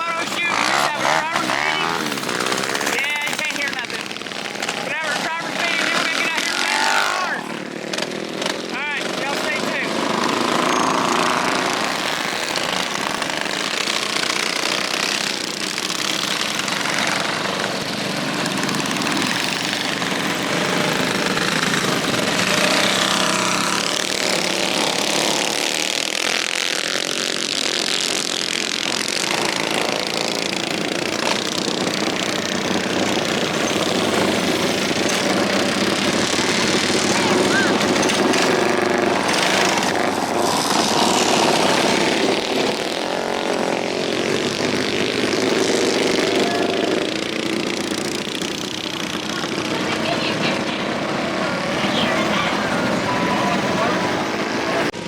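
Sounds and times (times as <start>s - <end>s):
mini bike engines revving: 0.0s - 55.0s.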